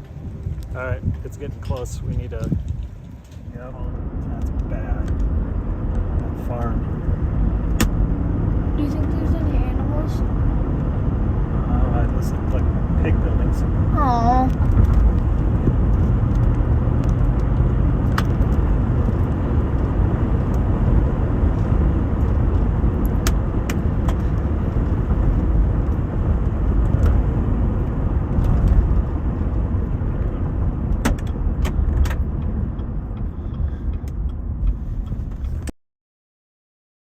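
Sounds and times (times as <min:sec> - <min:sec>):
car road and wind rumble: 0:00.0 - 0:35.7.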